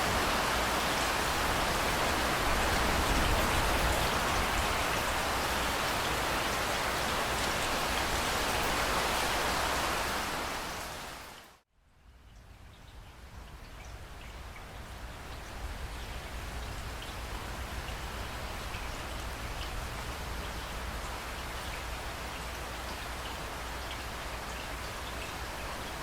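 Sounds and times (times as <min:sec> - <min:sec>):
heavy rainfall: 0:00.0 - 0:11.6, 0:12.5 - 0:26.0
light rain with separate drops: 0:00.0 - 0:26.0.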